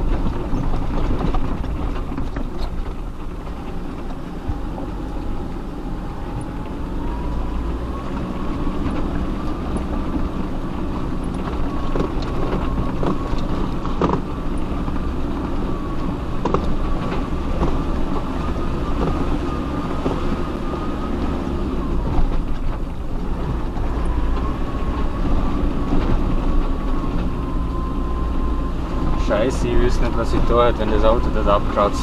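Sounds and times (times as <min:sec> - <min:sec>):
off-road vehicle engine running: 0:00.0 - 0:32.0.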